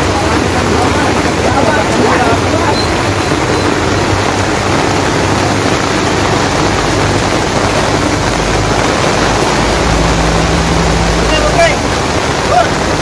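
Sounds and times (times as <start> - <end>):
heavy rain on plastic sheeting: 0.0 - 13.0.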